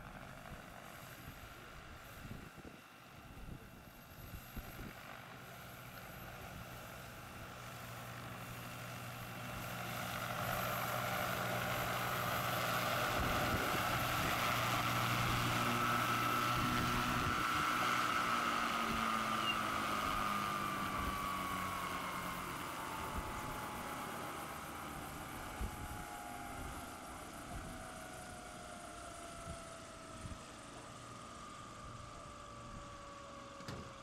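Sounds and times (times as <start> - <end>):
electric motor whine: 0.0 - 34.0
helicopter rotor beating: 0.0 - 34.0.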